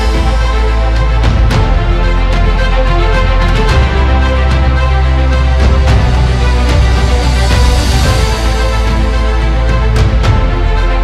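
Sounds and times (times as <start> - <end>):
background music with bass and beat: 0.0 - 11.0.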